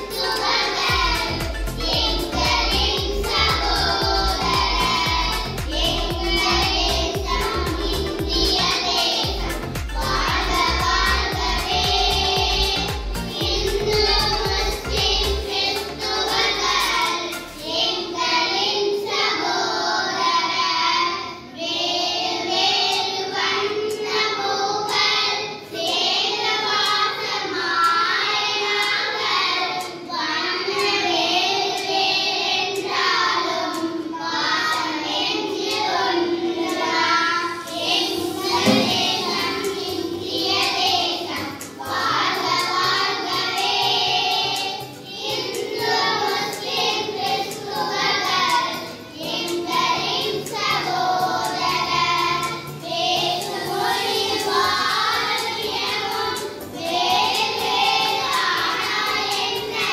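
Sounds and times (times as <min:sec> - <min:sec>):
children singing into microphone: 0:00.0 - 0:59.9.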